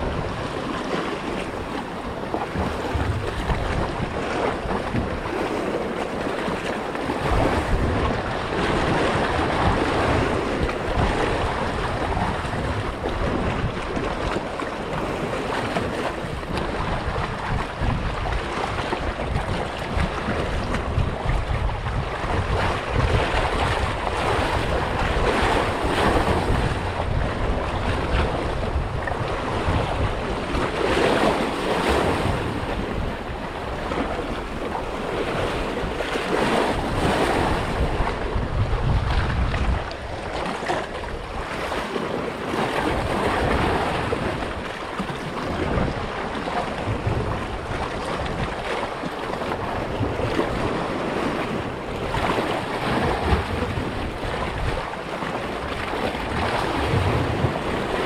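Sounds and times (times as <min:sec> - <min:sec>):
waves washing and splashing: 0:00.0 - 0:58.0
wind buffeting microphone: 0:00.0 - 0:58.0.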